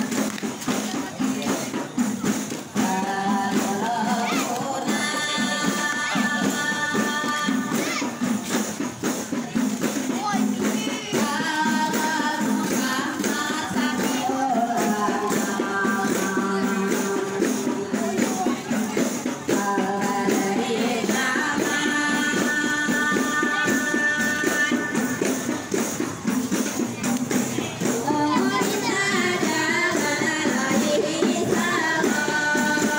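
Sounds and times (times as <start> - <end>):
frame drums beaten: 0.0 - 32.9
voices singing: 0.0 - 32.9.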